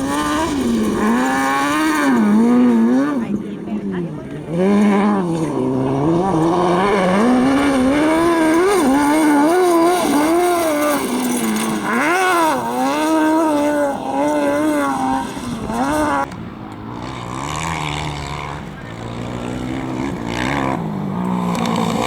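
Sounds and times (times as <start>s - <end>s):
engine revving hard: 0.0s - 16.3s, 16.9s - 22.0s.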